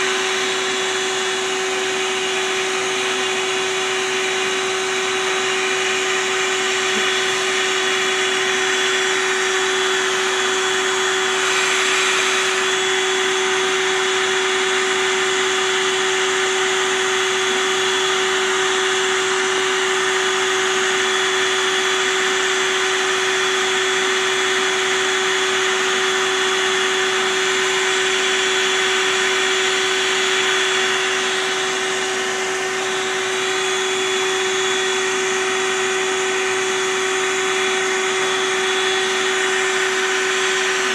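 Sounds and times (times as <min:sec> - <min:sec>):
vacuum motor humming: 0:00.0 - 0:40.9.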